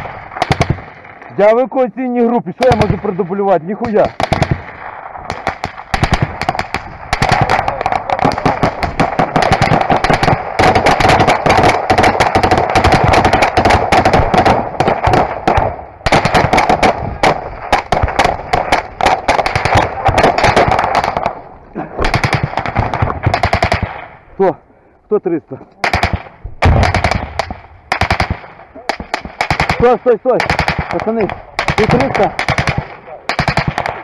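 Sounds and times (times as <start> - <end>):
automatic gunfire: 0.0 - 1.2, 2.6 - 24.1, 25.8 - 34.0.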